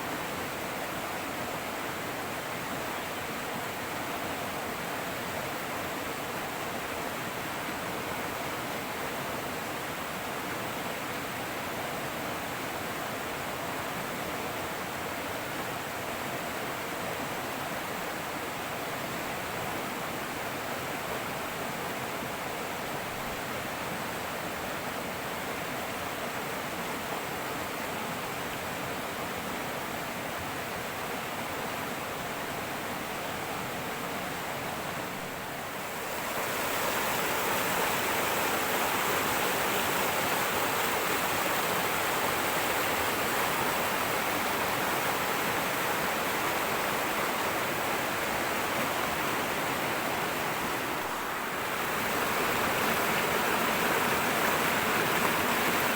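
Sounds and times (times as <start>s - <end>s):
river rushing over rocks: 0.0s - 55.9s.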